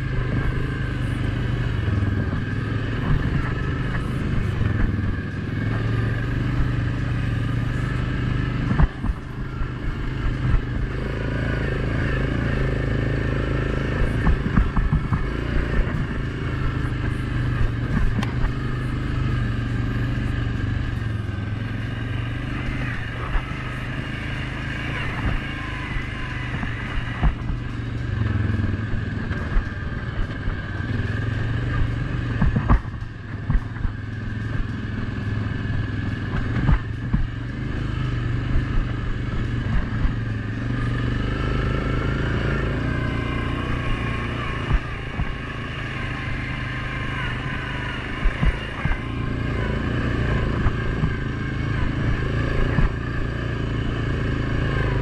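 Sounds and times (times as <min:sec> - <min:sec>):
knocks and rattles over rough ground: 0:00.0 - 0:19.0, 0:19.6 - 0:55.0
atv engine running: 0:00.0 - 0:55.0.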